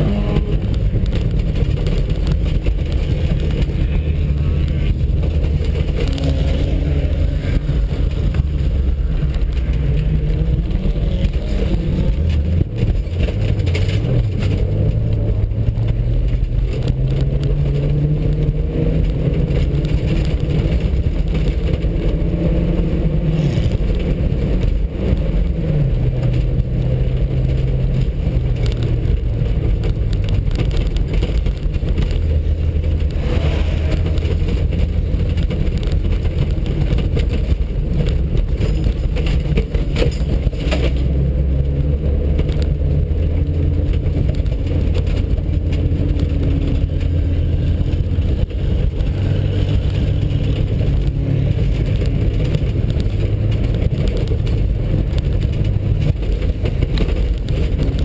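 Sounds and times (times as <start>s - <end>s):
car engine revving: 0.0s - 58.0s
knocks from rough road: 0.0s - 58.0s
tyres and wind rumbling: 0.0s - 58.0s.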